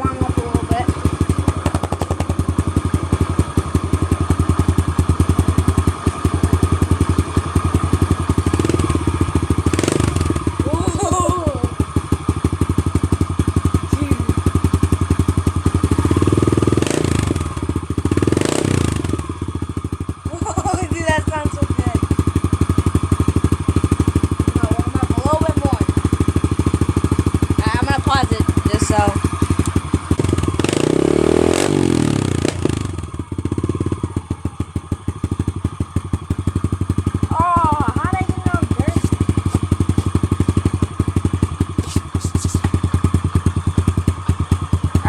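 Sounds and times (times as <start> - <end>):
motorbike engine idling: 0.0 - 45.0.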